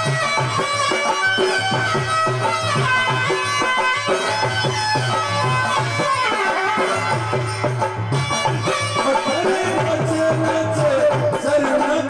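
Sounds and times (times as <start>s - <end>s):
hand drum beat: 0.0s - 12.0s.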